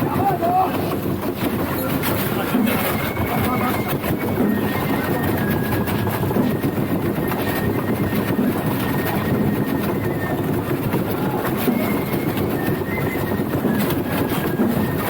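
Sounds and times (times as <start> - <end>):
wooden float wheels rumbling: 0.0 - 15.0.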